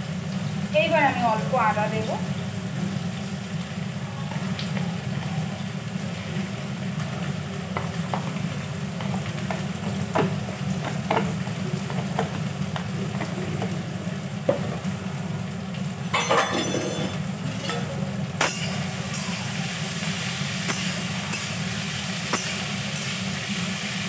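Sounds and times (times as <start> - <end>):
vegetables frying in oil: 0.0 - 24.0.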